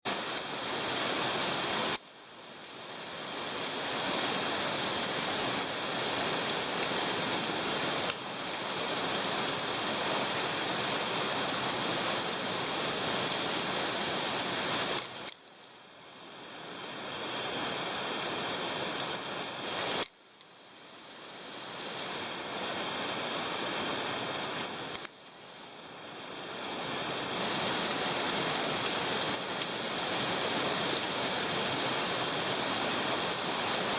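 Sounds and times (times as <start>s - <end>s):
small waterfall splashing: 0.0s - 33.9s.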